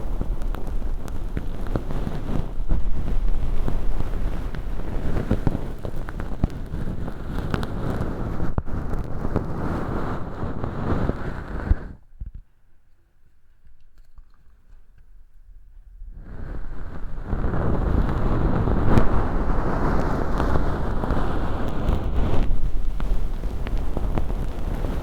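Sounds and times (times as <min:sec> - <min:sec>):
muffled rumble: 0:00.0 - 0:12.0, 0:15.9 - 0:25.0.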